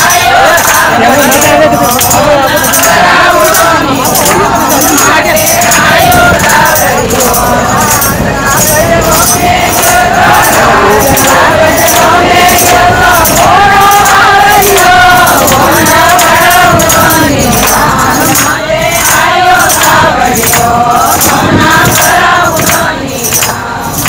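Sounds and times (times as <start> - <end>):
hand claps: 0.0 - 24.0
women singing together: 0.0 - 24.0.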